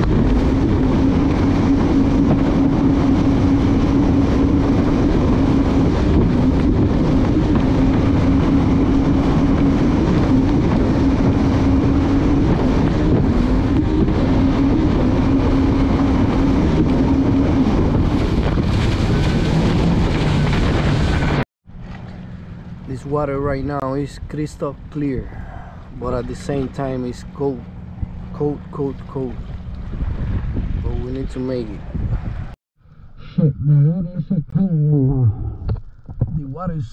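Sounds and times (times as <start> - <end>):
jet ski engine running: 0.0 - 32.6
water rushing past hull: 0.0 - 32.6
wind buffeting microphone: 0.0 - 32.6.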